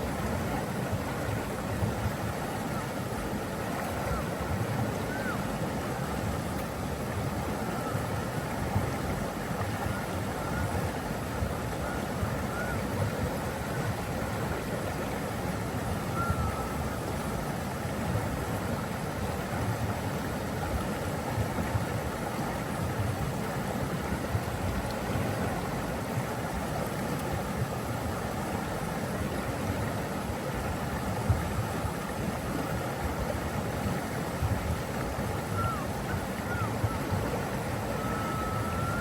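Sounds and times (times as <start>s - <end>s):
water rushing: 0.0s - 39.0s.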